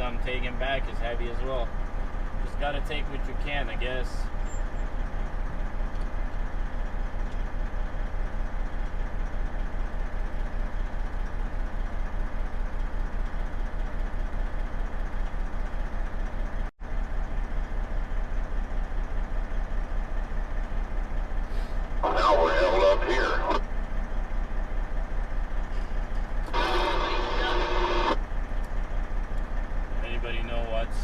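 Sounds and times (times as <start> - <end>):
diesel truck engine throbbing: 0.0 - 31.0.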